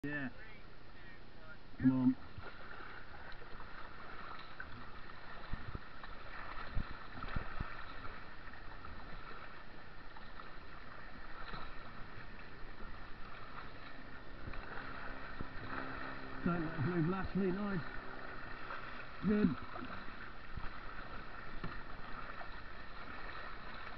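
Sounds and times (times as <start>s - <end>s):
water rushing and splashing: 1.8s - 23.9s.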